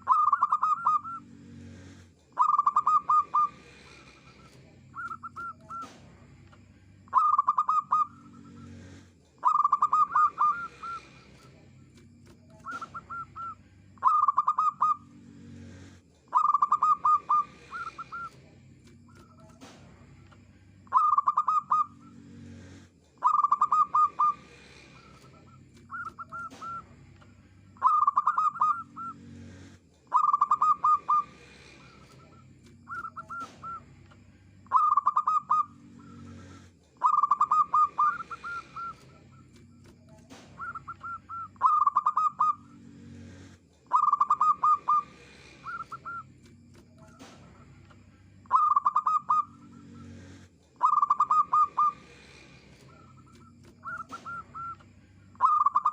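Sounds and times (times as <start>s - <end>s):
dove cooing: 0.0s - 5.9s, 7.1s - 11.5s, 12.2s - 18.4s, 20.9s - 22.2s, 23.2s - 26.9s, 27.8s - 33.8s, 34.6s - 42.8s, 43.9s - 47.4s, 48.4s - 55.9s.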